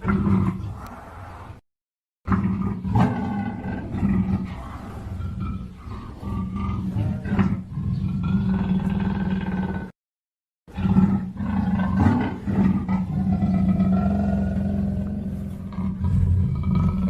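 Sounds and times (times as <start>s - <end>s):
deep roar: 0.0s - 1.6s, 2.3s - 9.9s, 10.7s - 17.0s.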